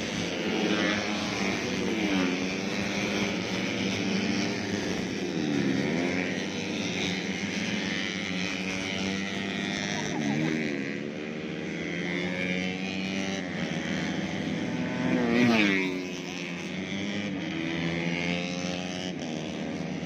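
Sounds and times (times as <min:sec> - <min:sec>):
race motorcycles running hard: 0:00.0 - 0:20.0.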